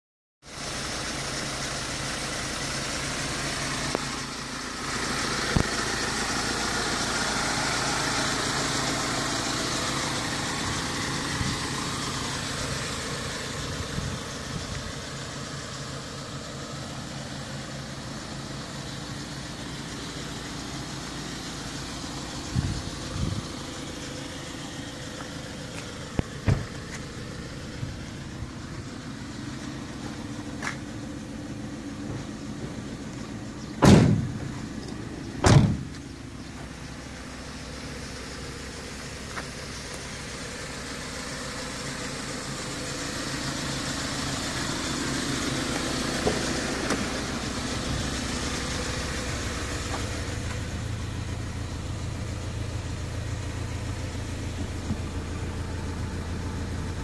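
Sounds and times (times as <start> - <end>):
diesel van engine idling: 0.4 - 57.0.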